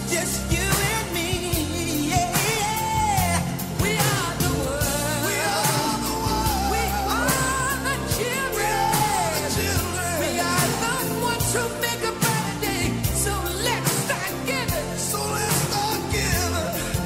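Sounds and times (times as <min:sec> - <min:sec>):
pop song with lead singer: 0:00.0 - 0:17.0.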